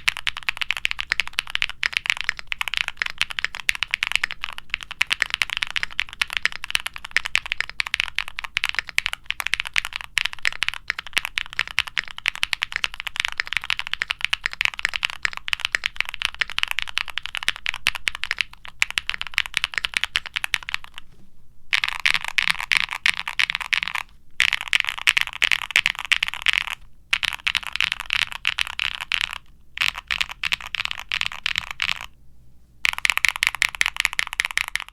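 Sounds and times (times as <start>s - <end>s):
fast mechanical keyboard typing: 0.0s - 21.0s, 21.7s - 32.1s, 32.9s - 34.9s.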